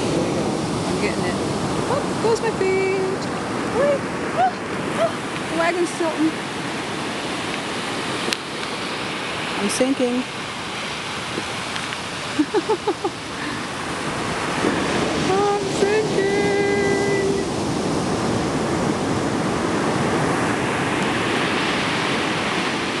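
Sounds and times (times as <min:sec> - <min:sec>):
waves breaking on sand: 0:00.0 - 0:23.0.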